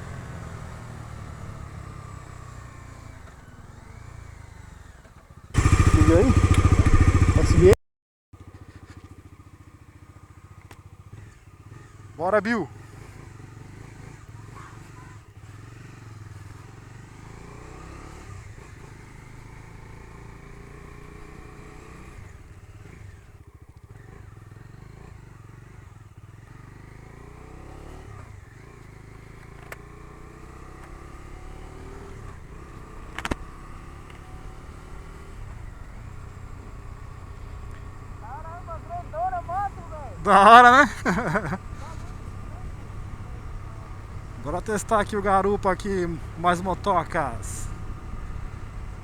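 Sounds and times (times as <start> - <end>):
motorcycle engine revving through gears: 0.0 - 7.8, 8.4 - 38.3, 39.8 - 45.4, 47.6 - 49.0.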